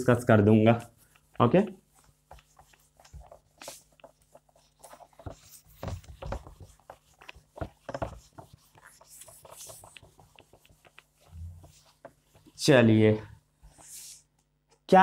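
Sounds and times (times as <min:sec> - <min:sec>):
eraser rubbing whiteboard: 0:01.0 - 0:12.7, 0:13.4 - 0:14.3.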